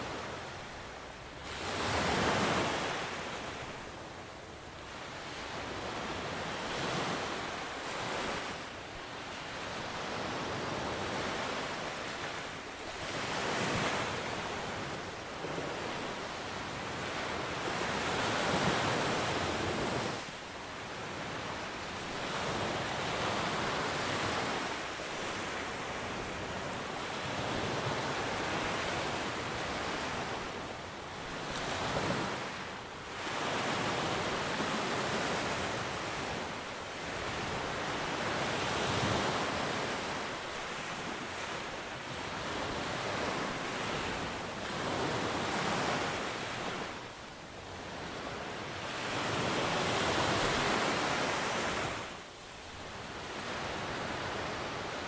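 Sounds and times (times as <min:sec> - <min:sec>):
small waves breaking on beach: 0:00.0 - 0:55.0.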